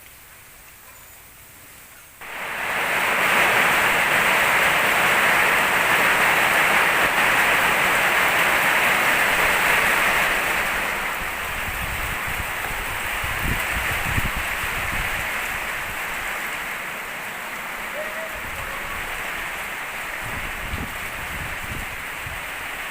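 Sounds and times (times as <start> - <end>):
heavy rain pouring: 1.3 - 22.9.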